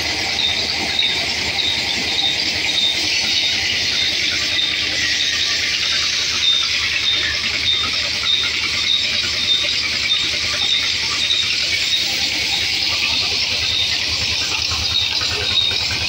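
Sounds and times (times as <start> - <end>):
band saw blade hiss and whine: 0.0 - 16.0
low machine hum: 0.0 - 16.0.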